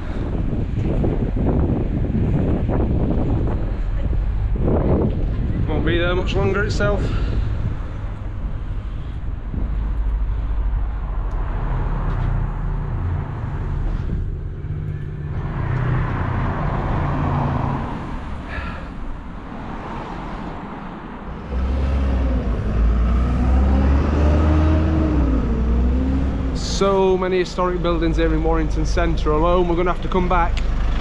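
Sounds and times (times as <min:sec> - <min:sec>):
road traffic: 0:00.0 - 0:31.0
wind and road rumble: 0:00.0 - 0:31.0
engine pitch rising and falling: 0:02.1 - 0:20.4, 0:21.3 - 0:31.0.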